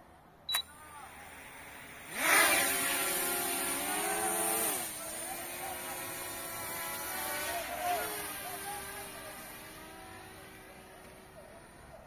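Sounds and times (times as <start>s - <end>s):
quadcopter propellers whining: 0.5s - 12.0s.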